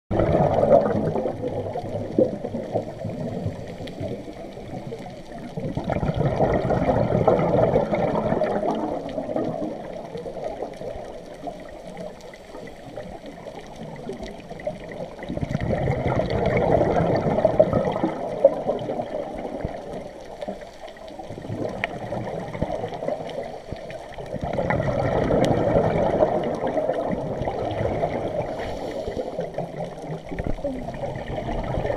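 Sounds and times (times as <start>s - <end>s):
underwater breath bubbling: 0.1s - 31.9s
water noise: 0.1s - 31.9s.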